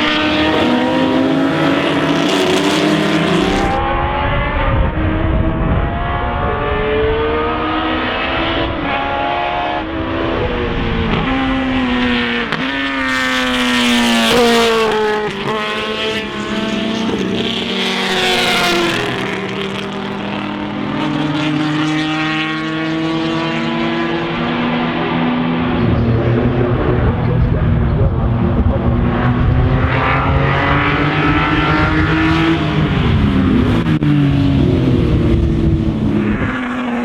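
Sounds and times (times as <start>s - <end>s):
racing cars passing at speed: 0.0s - 37.0s.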